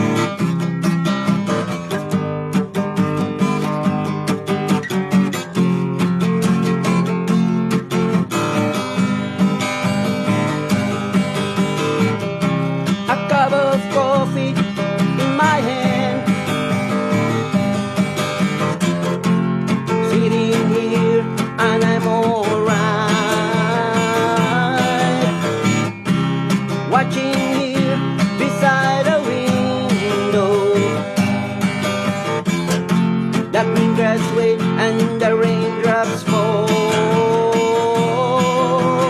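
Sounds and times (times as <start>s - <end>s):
acoustic guitar strumming: 0.0s - 39.0s.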